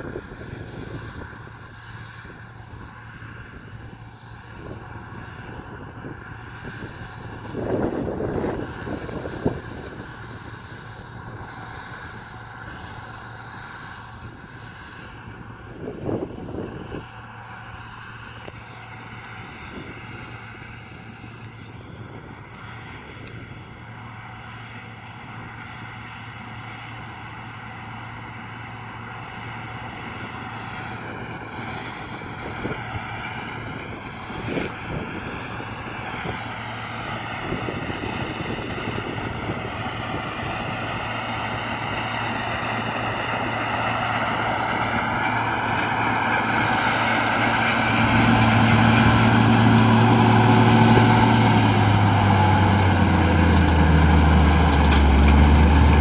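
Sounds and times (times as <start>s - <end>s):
drone propellers whining: 0.0s - 56.0s
tractor diesel engine running: 0.0s - 56.0s.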